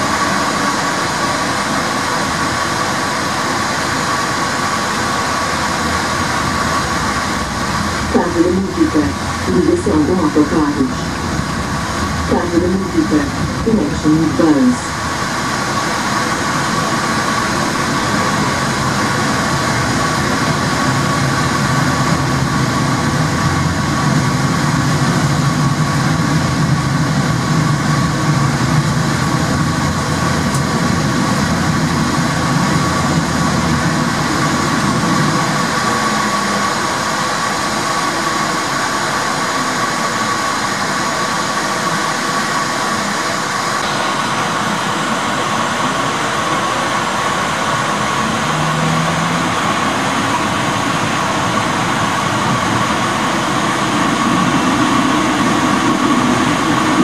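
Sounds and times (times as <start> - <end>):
constant whine: 0.0 - 57.0
tram wheels rumbling on rail: 0.0 - 57.0.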